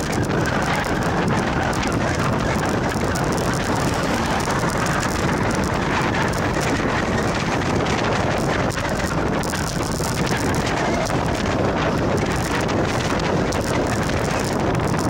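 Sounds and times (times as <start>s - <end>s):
tyre rumble on rough road: 0.0s - 15.0s
wind rushing over microphone: 0.0s - 15.0s.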